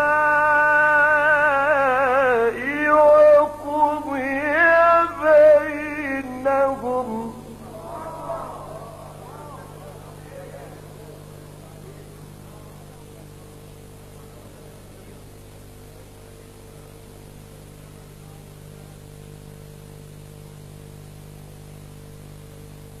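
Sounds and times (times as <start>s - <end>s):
constant hiss: 0.0s - 23.0s
electrical hum: 0.0s - 23.0s.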